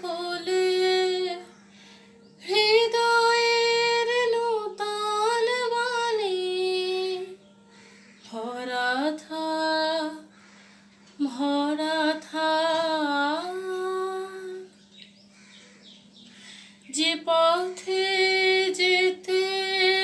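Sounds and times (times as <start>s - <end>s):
woman singing unaccompanied: 0.0s - 15.2s, 16.2s - 20.0s.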